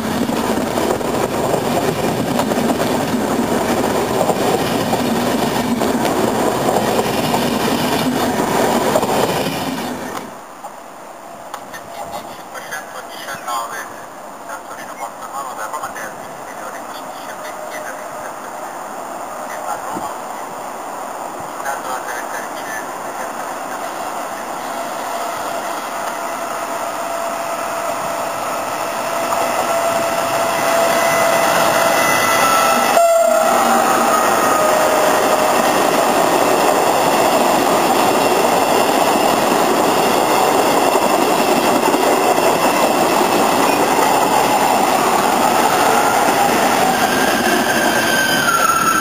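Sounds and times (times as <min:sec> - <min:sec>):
train rumbling past: 0:00.0 - 0:49.0.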